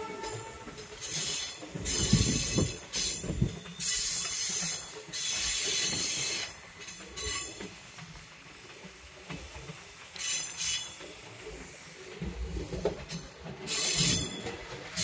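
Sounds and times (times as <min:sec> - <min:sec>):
train running sound: 0:00.0 - 0:15.0
train wheels squealing on rails: 0:00.0 - 0:15.0.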